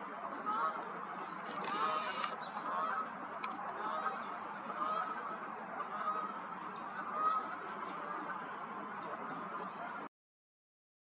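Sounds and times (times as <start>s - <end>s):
distant birds calling: 0.0s - 10.1s.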